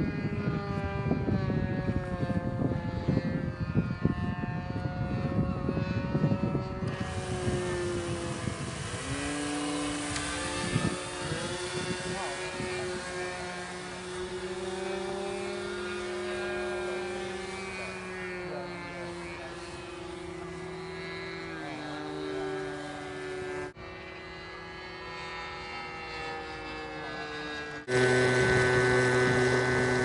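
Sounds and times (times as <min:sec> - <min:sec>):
model aircraft propeller drone: 0:00.0 - 0:30.0.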